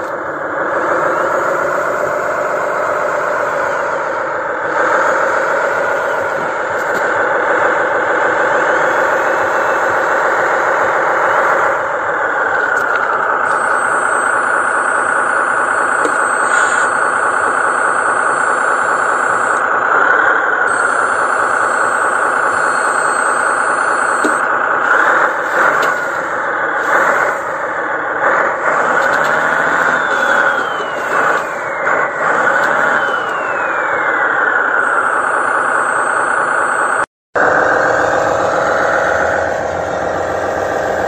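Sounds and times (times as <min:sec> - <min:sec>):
model truck motor whining: 0:00.0 - 0:41.0.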